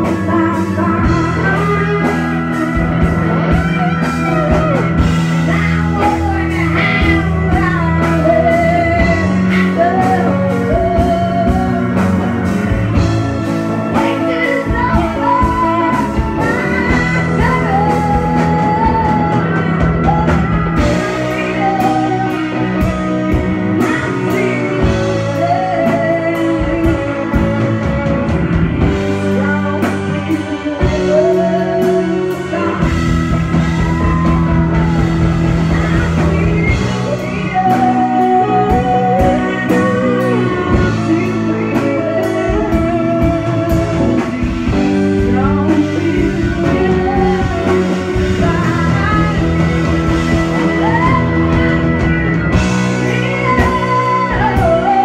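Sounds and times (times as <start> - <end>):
electric lead guitar bent notes: 0.0 - 55.0
rock band playing: 0.0 - 55.0.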